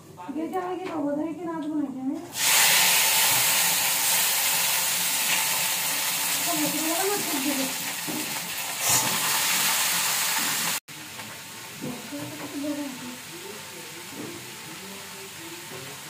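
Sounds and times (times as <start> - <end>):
food sizzling in wok: 2.3 - 16.0.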